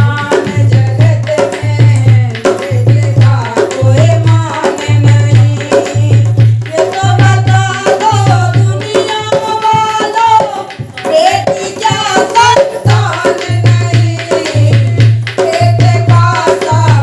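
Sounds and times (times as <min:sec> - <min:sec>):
women singing devotional song: 0:00.0 - 0:17.0.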